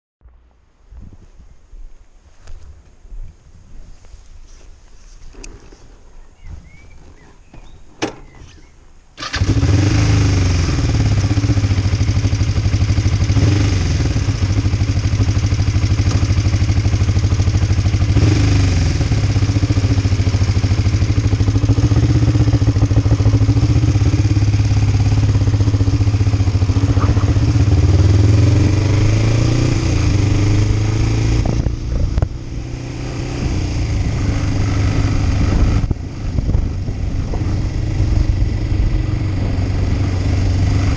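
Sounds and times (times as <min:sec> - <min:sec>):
motorcycle engine starting and idling: 0:07.1 - 0:40.9.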